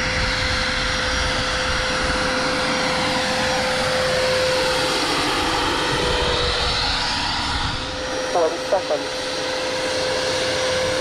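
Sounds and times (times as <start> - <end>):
model helicopter whine: 0.0 - 11.0
rotor blades rushing: 0.9 - 11.0.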